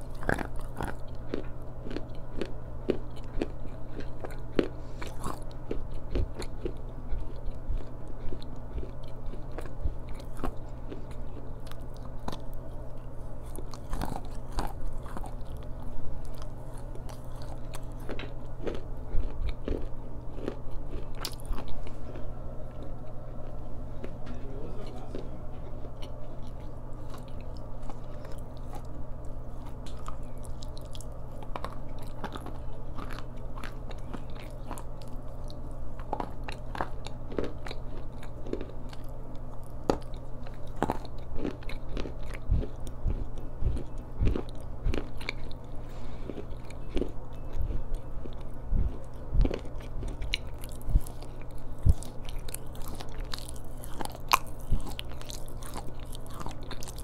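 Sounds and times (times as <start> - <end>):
stone being chewed crunching: 0.0 - 24.1, 24.8 - 57.0
steady low hum: 0.0 - 57.0.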